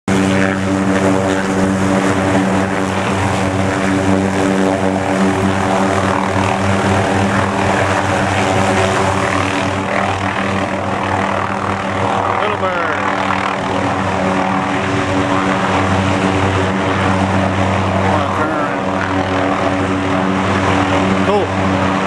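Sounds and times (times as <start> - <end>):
small aircraft engine running: 0.1 - 22.0.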